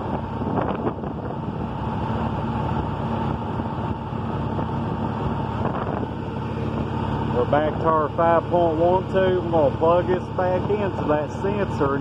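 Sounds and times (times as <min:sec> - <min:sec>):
engine low hum: 0:00.0 - 0:12.0
radiator cooling fans whirring: 0:00.0 - 0:12.0.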